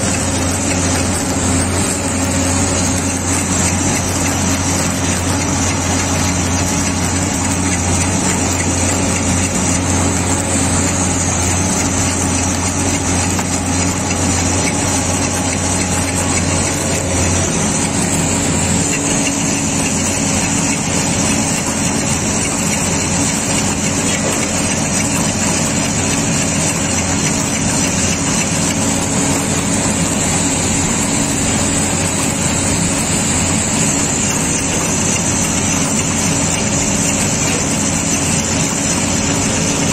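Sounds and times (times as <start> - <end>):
machinery drone: 0.0 - 39.9.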